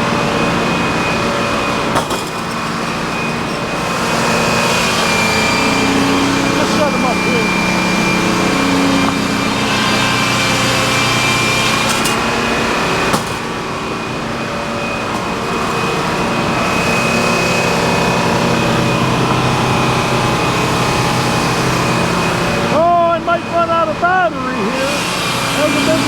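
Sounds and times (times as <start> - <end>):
sawmill machinery hum and whine: 0.0 - 26.0.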